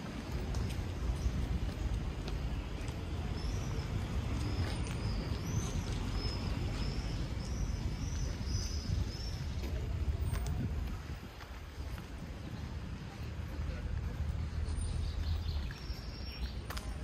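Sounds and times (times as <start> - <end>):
low street noise rumble: 0.0 - 17.0.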